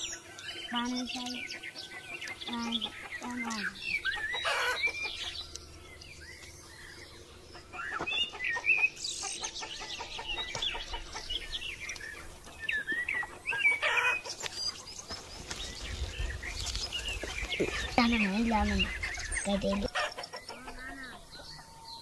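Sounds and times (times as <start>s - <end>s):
small birds chirping: 0.0s - 22.0s
chickens clucking: 0.1s - 21.8s.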